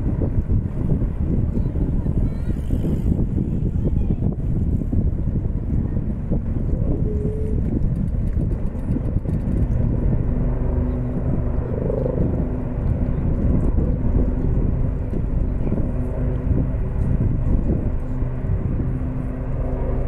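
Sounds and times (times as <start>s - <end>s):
helicopter engines and rotors droning: 0.0s - 20.0s.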